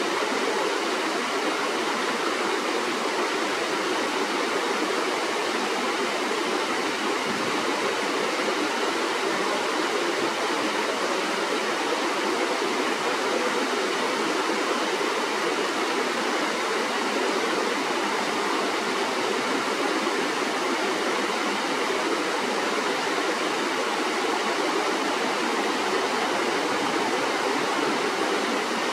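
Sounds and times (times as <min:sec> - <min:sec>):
stream flowing: 0:00.0 - 0:28.9.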